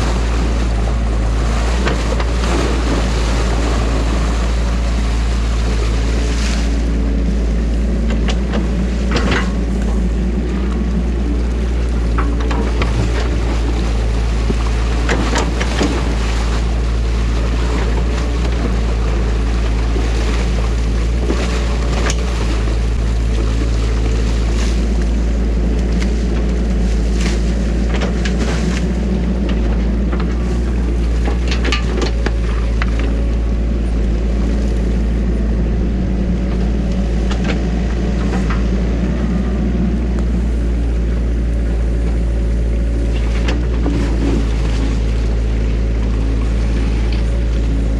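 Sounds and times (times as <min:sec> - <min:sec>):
excavator diesel engine running: 0:00.0 - 0:47.9
water rushing: 0:00.0 - 0:47.9.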